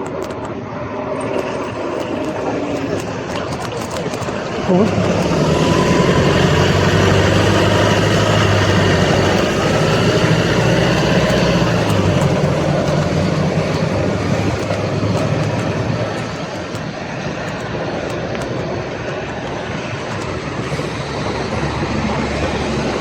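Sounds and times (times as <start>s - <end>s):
street and road noise: 0.0s - 23.0s
vehicle engine humming: 0.0s - 23.0s.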